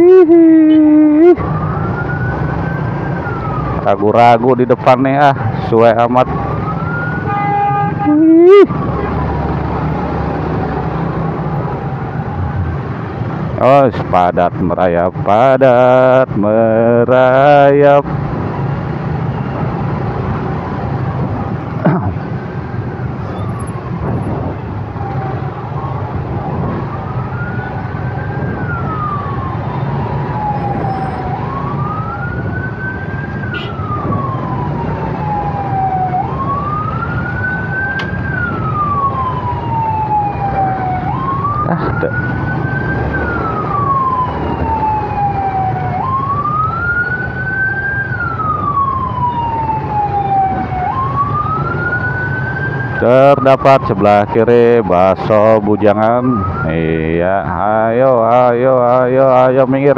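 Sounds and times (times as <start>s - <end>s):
emergency vehicle siren wailing: 0.0s - 59.9s
traffic engines rumbling: 0.0s - 59.9s.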